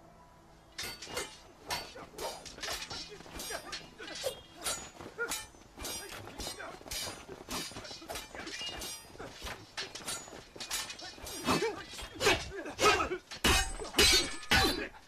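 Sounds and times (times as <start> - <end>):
swords clashing: 0.8 - 15.0.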